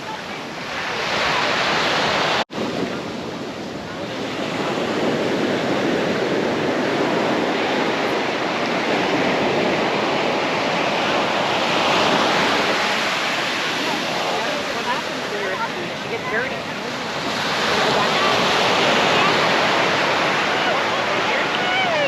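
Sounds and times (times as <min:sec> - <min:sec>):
ocean surf washing on beach: 0:00.0 - 0:22.0.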